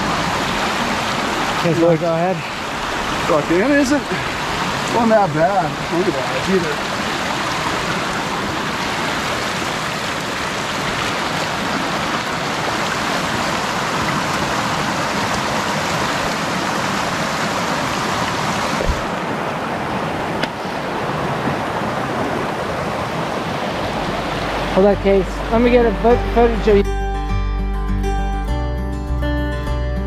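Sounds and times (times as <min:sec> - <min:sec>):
creek rushing over rocks: 0:00.0 - 0:26.6.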